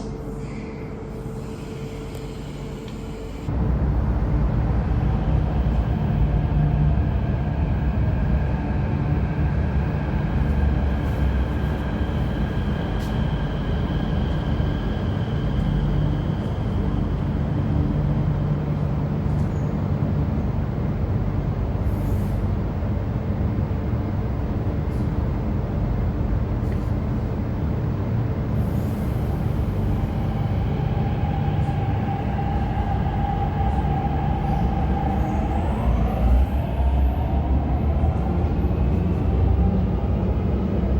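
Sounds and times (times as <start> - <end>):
metro train rumble: 0.0 - 40.9.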